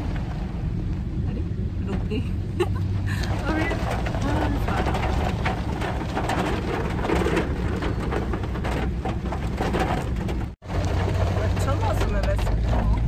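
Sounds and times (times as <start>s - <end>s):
heavy rain on a car: 0.0s - 13.0s
low road rumble: 0.0s - 13.0s.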